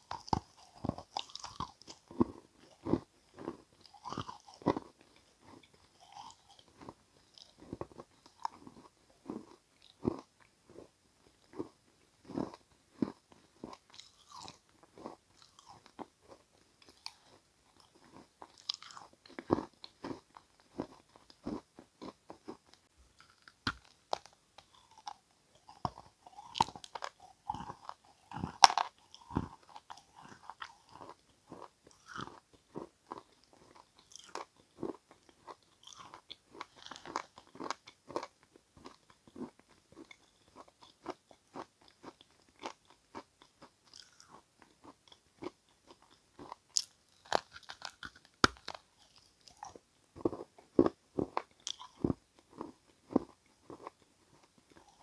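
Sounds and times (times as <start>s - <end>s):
chalk being bitten and chewed: 0.0s - 55.0s.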